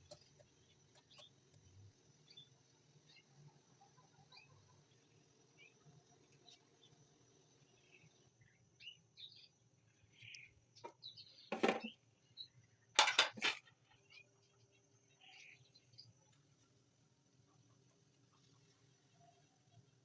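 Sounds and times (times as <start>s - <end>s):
faint chirps: 0.0s - 13.0s, 13.6s - 20.0s.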